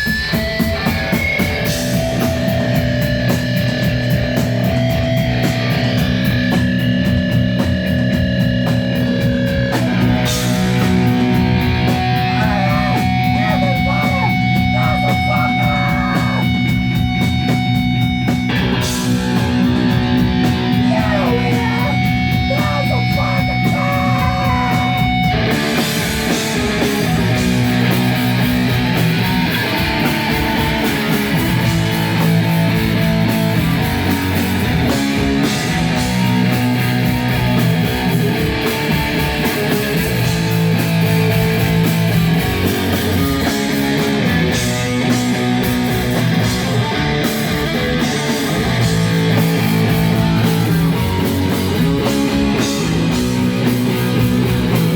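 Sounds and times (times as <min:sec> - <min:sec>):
distorted electric guitars: 0:00.0 - 0:54.9
live rock band playing: 0:00.0 - 0:54.9.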